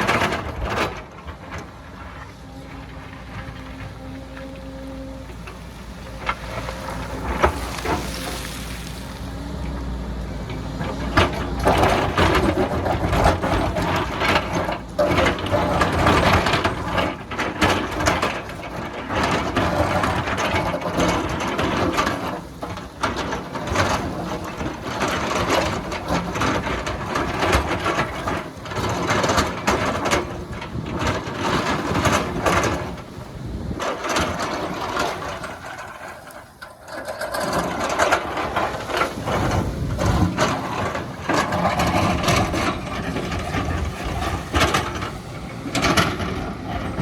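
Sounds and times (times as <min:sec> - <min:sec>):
excavator engine running: 0:00.0 - 0:47.0
bucket crunching soil and rock: 0:05.6 - 0:47.0.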